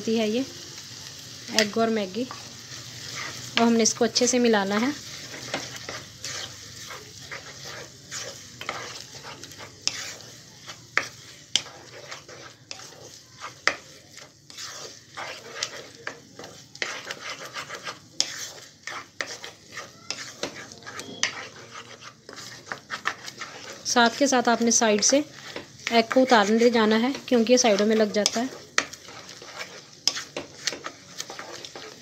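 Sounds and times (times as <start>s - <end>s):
light frying sizzle: 0.0s - 32.0s
wooden spatula scraping pan: 1.5s - 32.0s.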